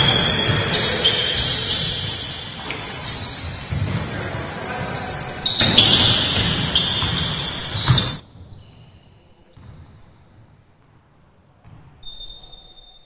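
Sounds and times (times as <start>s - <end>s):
ball bounces echoing in hall: 0.0s - 13.0s.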